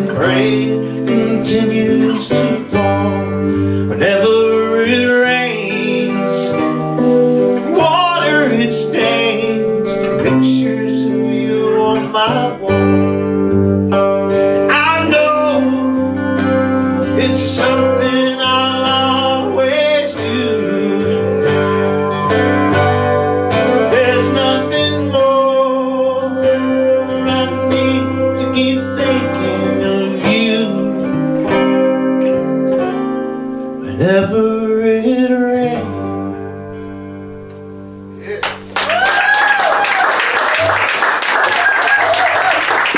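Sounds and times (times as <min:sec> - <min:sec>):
band playing guitars: 0:00.0 - 0:42.9.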